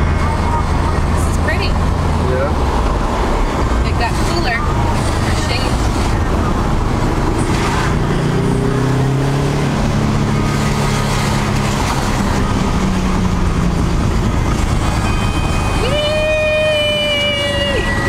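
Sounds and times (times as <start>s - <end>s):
car engine running: 0.0s - 18.0s
road and tyre rumble: 0.0s - 18.0s.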